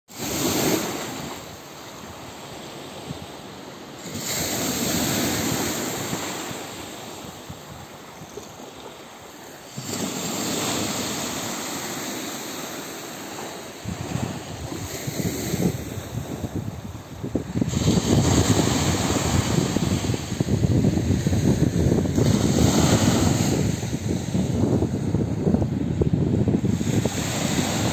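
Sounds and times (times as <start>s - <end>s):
sea surf washing in: 0.1s - 8.0s, 8.9s - 27.9s.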